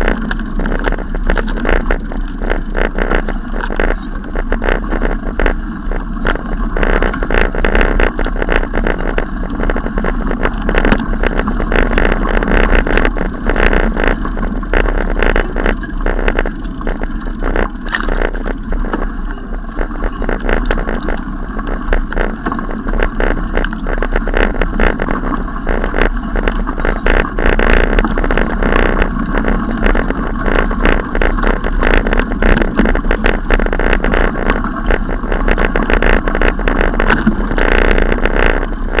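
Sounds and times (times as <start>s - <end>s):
camera rattling on bicycle: 0.0s - 39.0s
wind noise: 0.0s - 39.0s.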